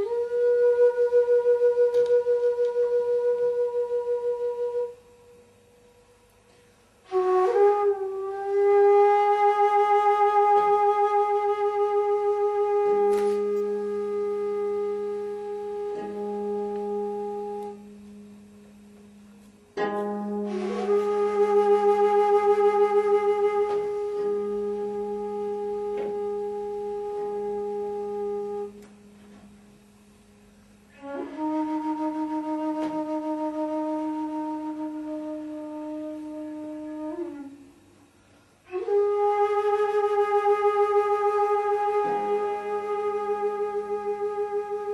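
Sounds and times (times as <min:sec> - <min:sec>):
long held note with vibrato: 0:00.0 - 0:44.9
lower steady note: 0:00.0 - 0:44.9.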